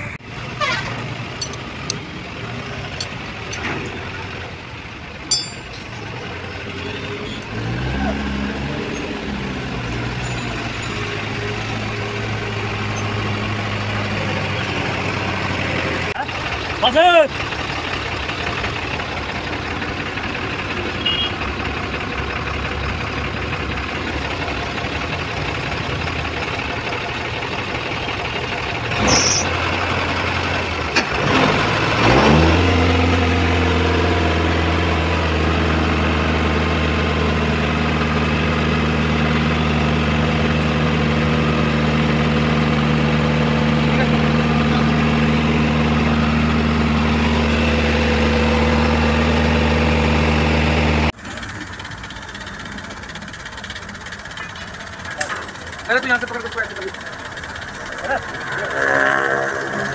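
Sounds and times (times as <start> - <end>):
engine running: 0.0 - 59.9
engine spinning up to idle: 6.1 - 59.9.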